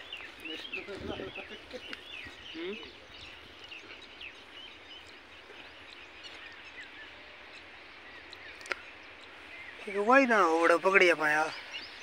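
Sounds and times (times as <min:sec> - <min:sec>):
distant bird chirps: 0:00.0 - 0:12.0
open-air field ambience: 0:00.0 - 0:12.0.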